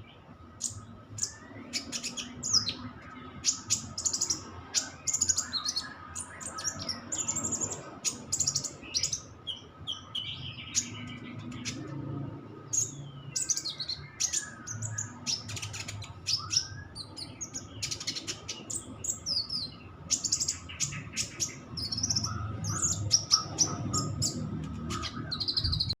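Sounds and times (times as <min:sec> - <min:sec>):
bird chirping and trilling: 0:00.0 - 0:26.0.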